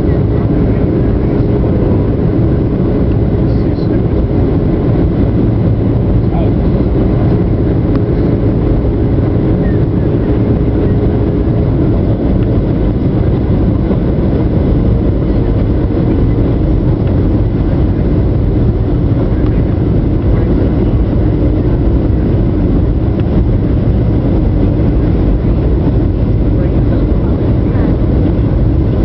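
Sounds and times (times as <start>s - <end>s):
jet engine cabin noise: 0.0s - 29.0s.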